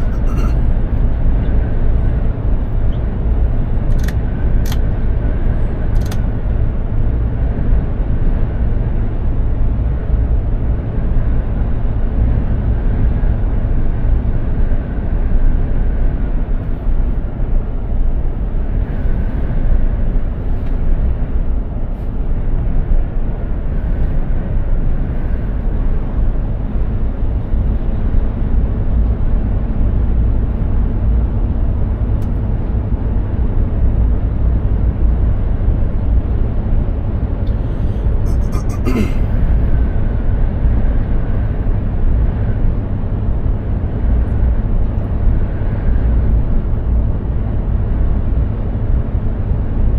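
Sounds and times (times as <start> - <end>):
truck engine and road rumble: 0.0 - 49.9.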